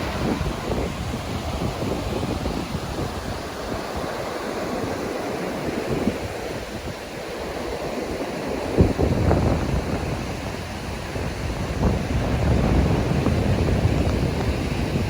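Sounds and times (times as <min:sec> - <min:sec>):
ocean surf washing on beach: 0:00.0 - 0:15.0
wind buffeting microphone: 0:00.0 - 0:15.0.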